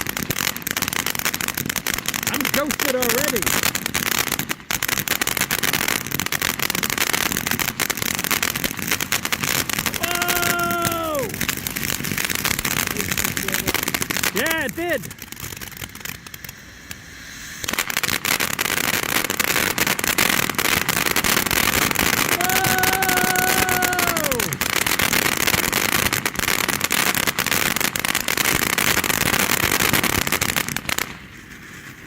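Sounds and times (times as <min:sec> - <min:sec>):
firework fountain hissing and crackling: 0:00.0 - 0:32.0.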